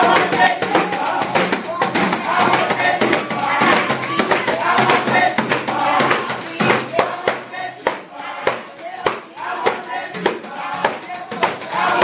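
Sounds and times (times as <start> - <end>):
hand-clapping: 0.0 - 12.0
people singing: 0.0 - 12.0
tambourines jingling: 0.0 - 12.0.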